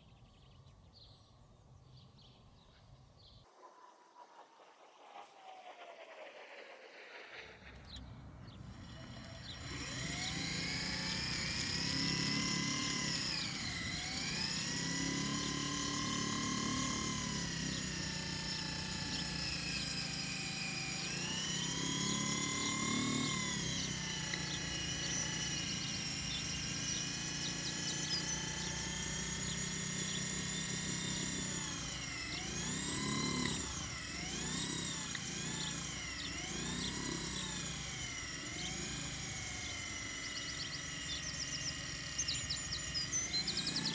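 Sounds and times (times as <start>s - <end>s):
lure machine motor whining: 5.8s - 43.9s.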